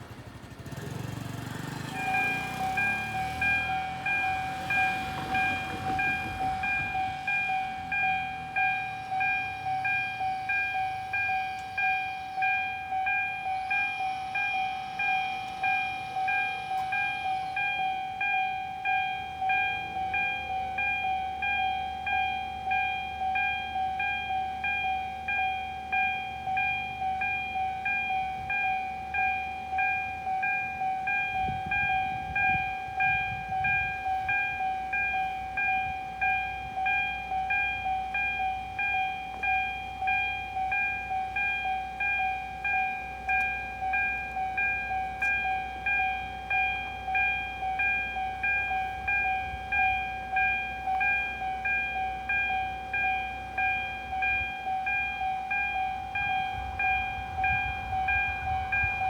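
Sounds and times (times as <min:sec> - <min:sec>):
level-crossing alarm two-tone ding: 0:01.9 - 0:59.0.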